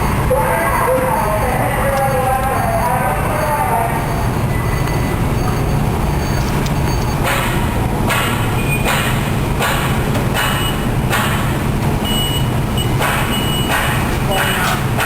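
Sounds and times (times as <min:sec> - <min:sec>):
machinery rumbling: 0:00.0 - 0:15.0.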